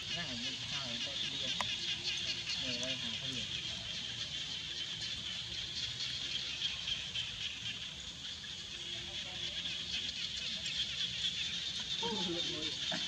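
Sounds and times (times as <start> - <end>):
insects droning in chorus: 0.0 - 13.0.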